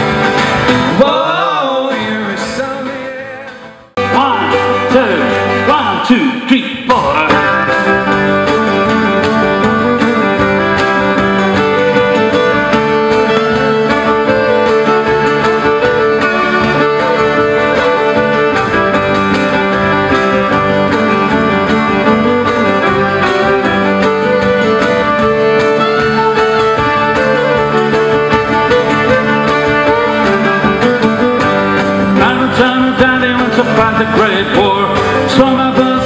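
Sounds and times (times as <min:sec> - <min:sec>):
cajon beat: 0:00.0 - 0:36.0
strummed acoustic guitars: 0:00.0 - 0:36.0
fiddle melody: 0:04.0 - 0:06.1, 0:07.2 - 0:36.0
plucked strings: 0:06.9 - 0:36.0.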